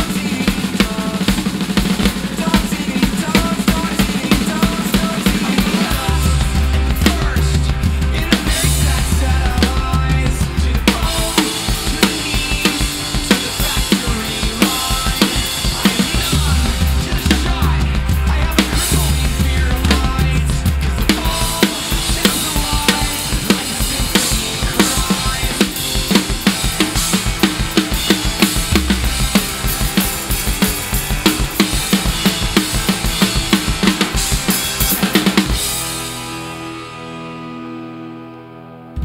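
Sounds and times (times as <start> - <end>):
drum kit played hard: 0.0 - 38.0
pop-punk backing track: 0.0 - 39.0.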